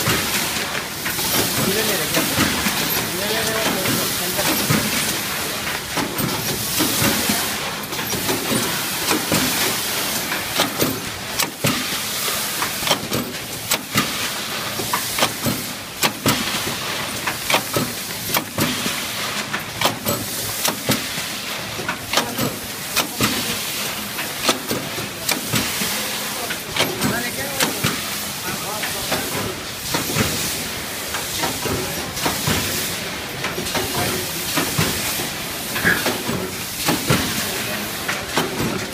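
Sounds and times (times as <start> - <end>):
mechanical clacks: 0.0 - 38.9
packing machine hissing: 0.0 - 38.9.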